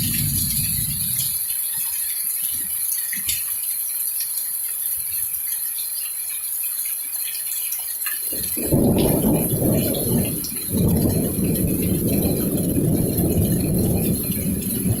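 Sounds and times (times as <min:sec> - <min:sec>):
rain hissing: 0:00.0 - 0:15.0
raindrops ticking on hard surfaces: 0:00.0 - 0:15.0.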